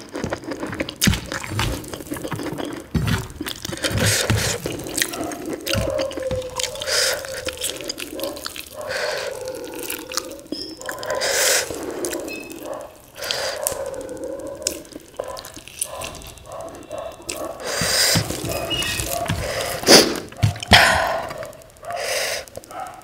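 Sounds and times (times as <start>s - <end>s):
juice dripping onto plate: 0.0s - 22.9s.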